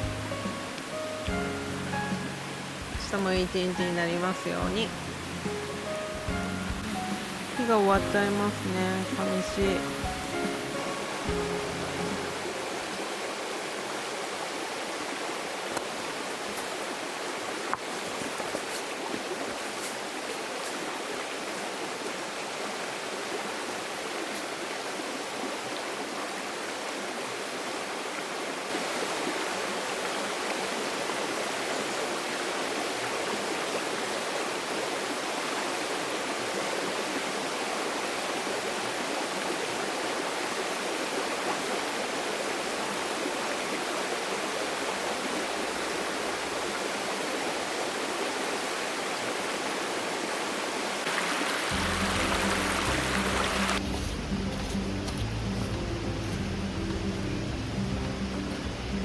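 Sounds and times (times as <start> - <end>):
flowing stream: 0.0 - 59.0.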